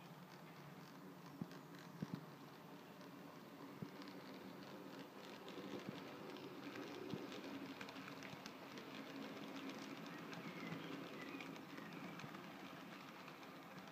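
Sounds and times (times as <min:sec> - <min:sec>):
model train motor hum: 0:00.0 - 0:13.9
wheels clicking on track: 0:00.0 - 0:13.9.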